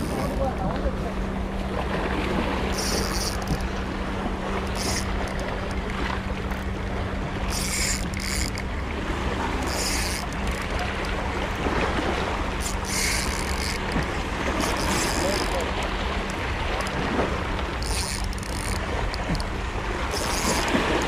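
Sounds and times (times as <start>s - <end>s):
fishing reel whirring: 0.0s - 0.5s, 2.6s - 5.8s, 6.4s - 21.0s.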